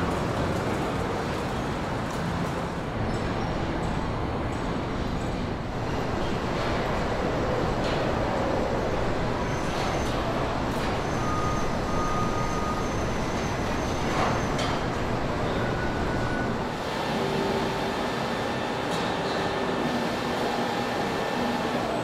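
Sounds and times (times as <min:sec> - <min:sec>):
factory machinery noise: 0:00.0 - 0:22.0.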